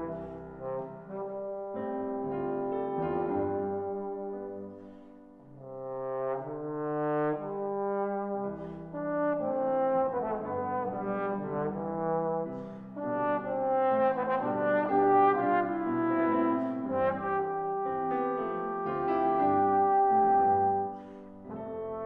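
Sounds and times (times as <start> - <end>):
piano accompaniment: 0.0 - 22.0
trombone playing slow melody: 0.0 - 22.0.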